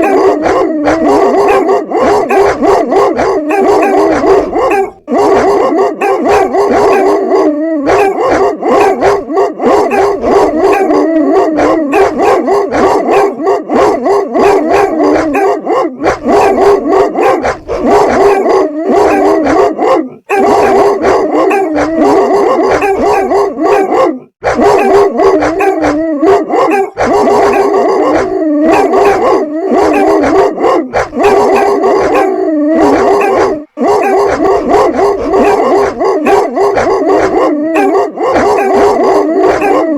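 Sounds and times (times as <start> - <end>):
dogs barking: 0.0 - 39.9
dogs crying: 0.0 - 39.9.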